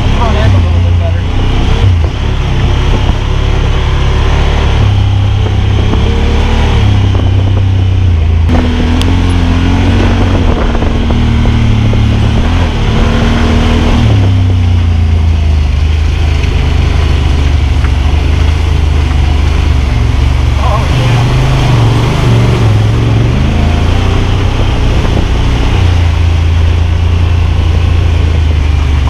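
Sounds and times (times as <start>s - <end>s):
engine low rumble: 0.0s - 29.0s.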